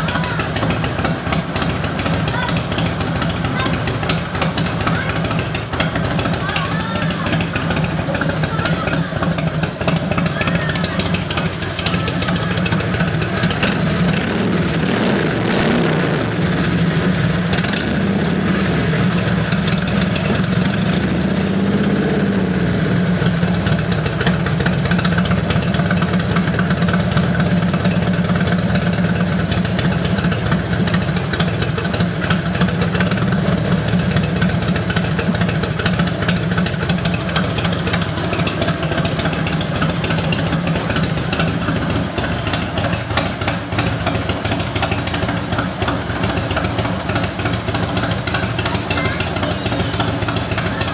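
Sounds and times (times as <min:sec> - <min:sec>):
motorcycle engine idling: 0:00.0 - 0:50.9.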